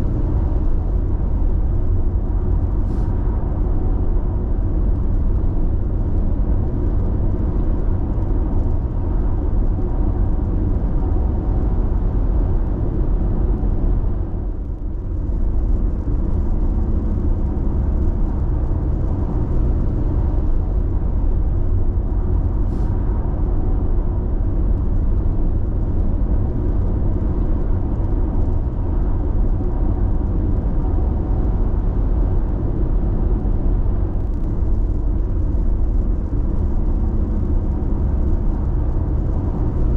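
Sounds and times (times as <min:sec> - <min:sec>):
tyre and engine rumble: 0:00.0 - 0:39.9.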